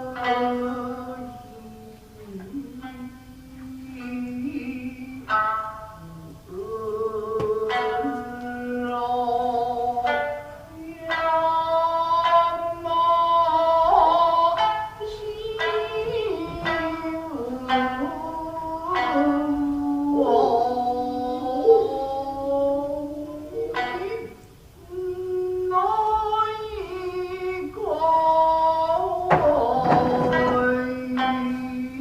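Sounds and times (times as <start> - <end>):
person singing sliding vocal line: 0.0 - 32.0
shamisen plucking: 0.0 - 32.0.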